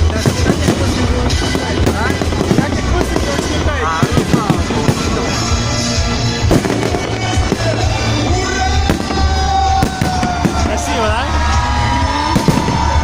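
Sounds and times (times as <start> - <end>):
fireworks bangs and crackling: 0.0 - 13.0
loud music: 0.0 - 13.0.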